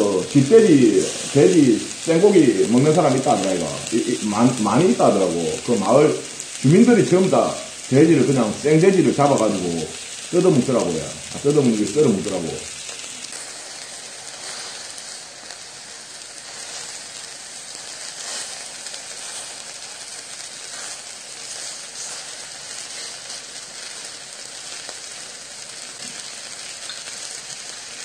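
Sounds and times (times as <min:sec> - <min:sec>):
meat sizzling on a griddle: 0:00.0 - 0:28.0.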